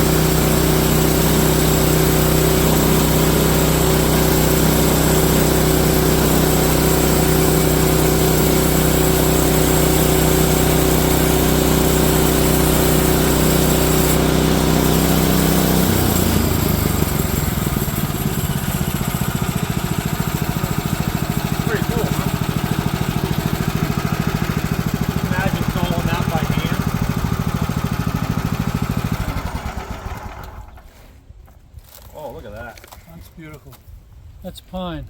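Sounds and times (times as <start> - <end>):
sawmill engine running: 0.0 - 31.1.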